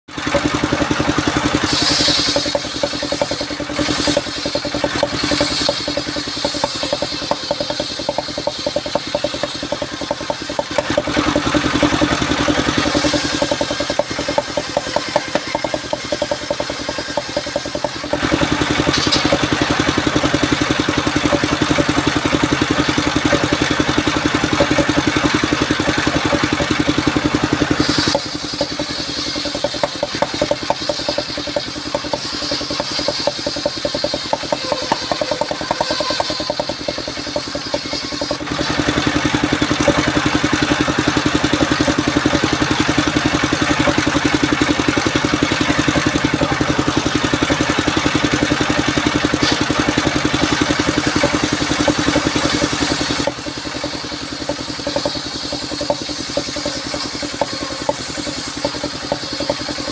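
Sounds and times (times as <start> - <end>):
circular saw cutting wood: 0.1 - 59.9
engine running with fast pulse: 0.1 - 59.9.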